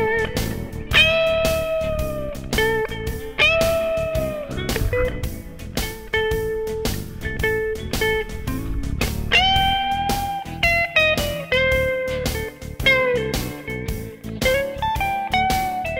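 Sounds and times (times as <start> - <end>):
steady drum beat: 0.0 - 15.8
guitar-led music: 0.0 - 15.9.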